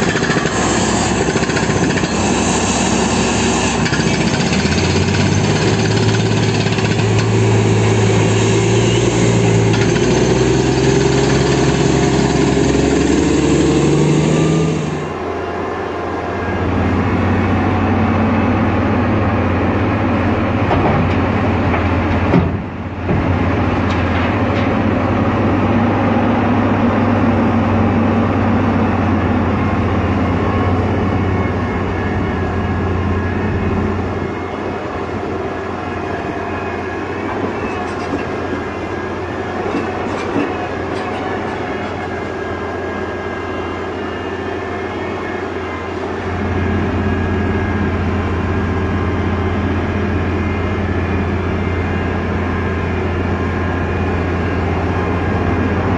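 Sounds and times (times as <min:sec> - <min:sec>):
drill rig diesel engine: 0:00.0 - 0:55.9
excavator diesel engine: 0:00.0 - 0:55.9.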